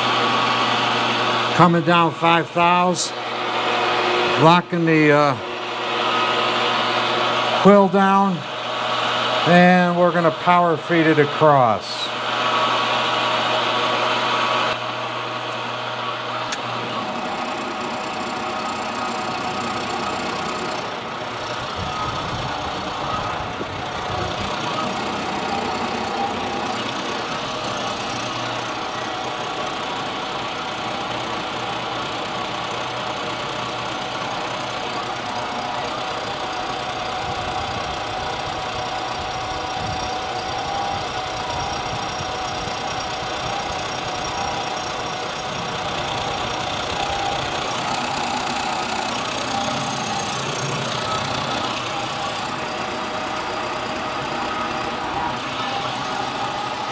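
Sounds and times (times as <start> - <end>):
milling machine cutting metal: 0.0 - 56.9.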